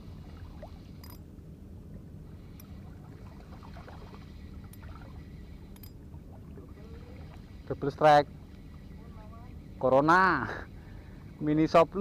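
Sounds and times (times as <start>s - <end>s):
wind and sea water rumble: 0.0s - 12.0s.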